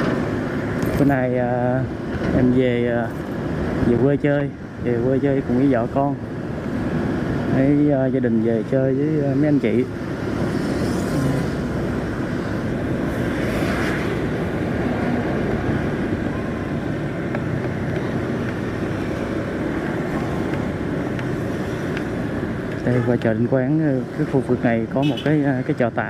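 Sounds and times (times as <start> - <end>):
road and wind noise: 0.0 - 26.0
vehicle engine hum: 0.0 - 26.0.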